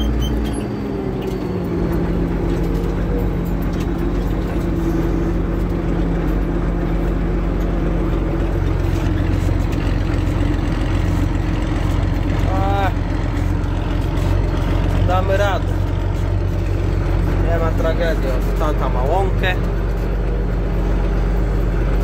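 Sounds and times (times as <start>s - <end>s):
tractor engine under load: 0.0s - 22.0s.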